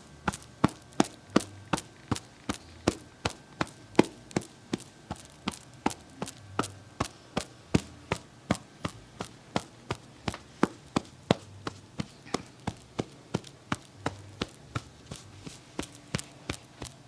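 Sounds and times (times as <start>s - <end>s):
massage tapping: 0.0s - 17.0s.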